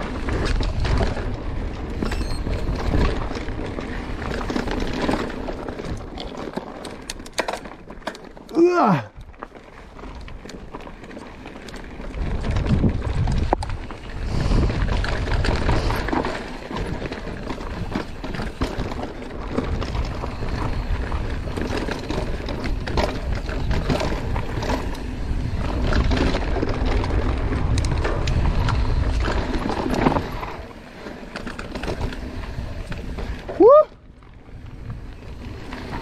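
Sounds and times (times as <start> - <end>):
wind rumble on microphone: 0.0 - 6.5, 11.5 - 36.0
bike clicking and rattling: 0.0 - 36.0.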